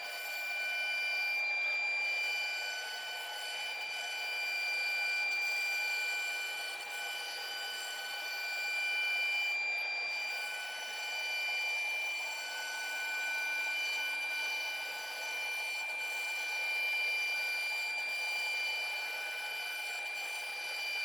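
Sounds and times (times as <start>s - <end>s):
cnc router high whine: 0.0s - 21.0s.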